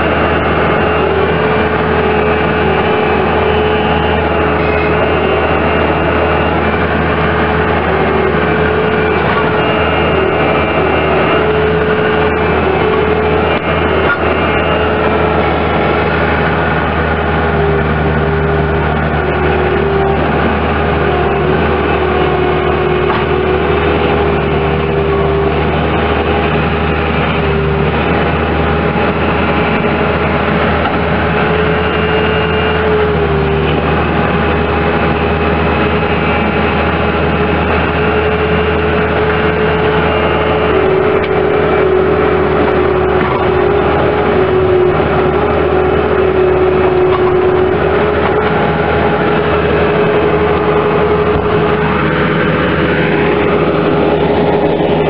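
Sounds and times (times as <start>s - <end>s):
diesel engine running: 0.0s - 55.0s
steady whine: 0.0s - 55.0s.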